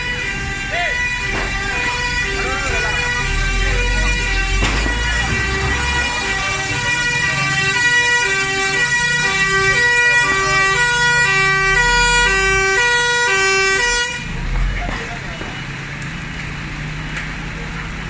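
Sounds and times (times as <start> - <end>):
fire engine two-tone siren: 0.0 - 16.0
low engine rumble: 0.0 - 18.0.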